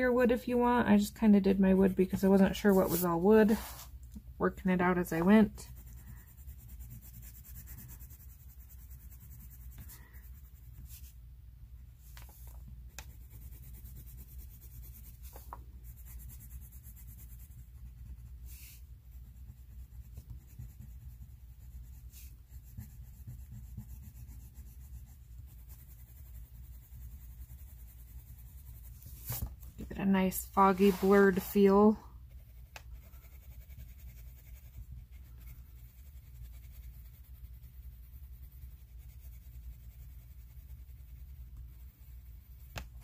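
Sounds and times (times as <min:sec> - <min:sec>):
colored pencil scratching paper: 0:00.0 - 0:11.2, 0:12.0 - 0:43.0.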